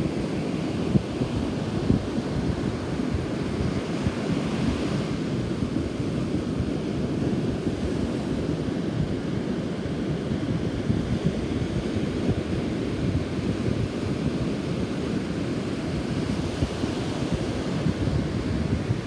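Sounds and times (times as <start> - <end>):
rough surf washing onto beach: 0.0 - 19.0
wind buffeting microphone: 0.0 - 19.0.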